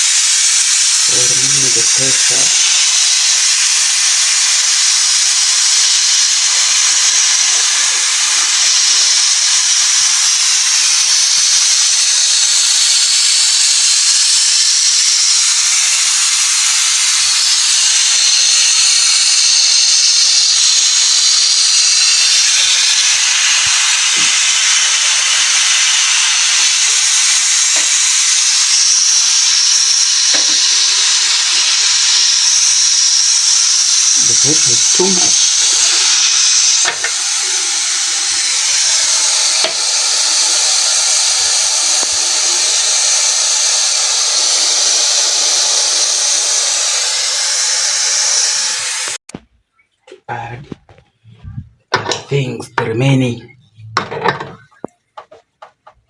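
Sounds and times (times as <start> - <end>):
pressure cooker steam hissing: 0.0 - 49.2.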